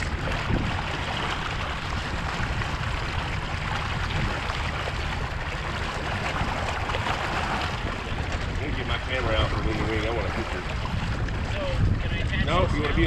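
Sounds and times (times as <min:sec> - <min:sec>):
water rushing along boat hull: 0:00.0 - 0:13.0
wind rumbling on microphone: 0:00.0 - 0:13.0.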